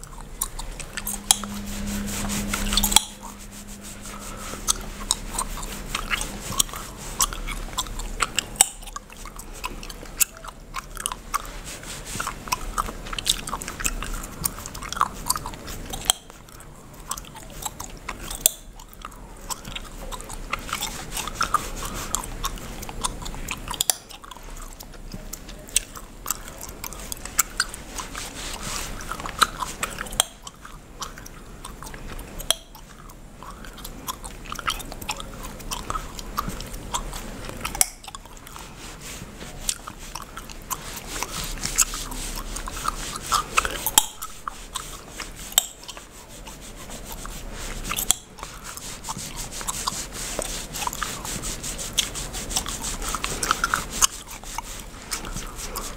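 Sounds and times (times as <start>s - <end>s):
wet gum chewing: 0.0s - 55.9s.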